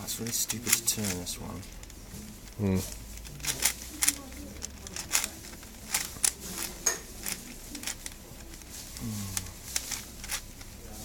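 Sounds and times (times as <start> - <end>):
puzzle cube clicking as turned: 0.1 - 10.8.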